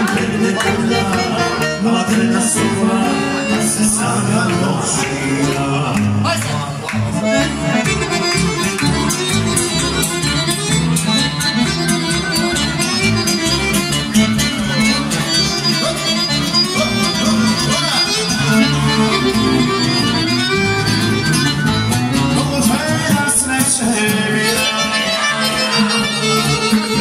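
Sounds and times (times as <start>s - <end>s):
accordion: 0.0s - 27.0s
guitar strumming: 0.0s - 27.0s.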